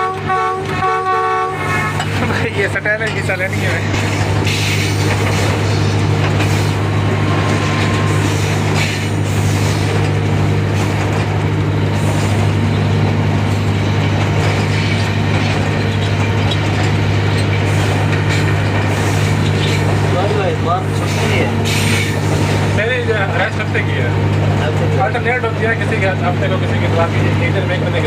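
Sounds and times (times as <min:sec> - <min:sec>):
locomotive engine drone: 0:00.0 - 0:28.0
rattling wheel and track noise: 0:00.0 - 0:28.0.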